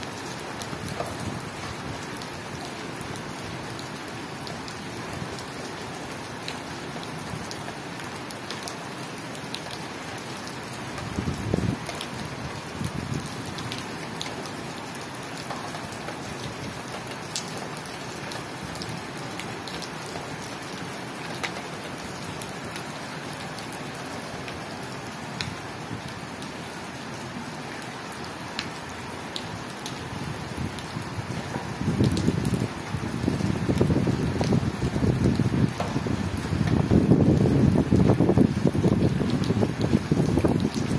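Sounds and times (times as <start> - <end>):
rain on tiled roof: 0.0 - 40.9.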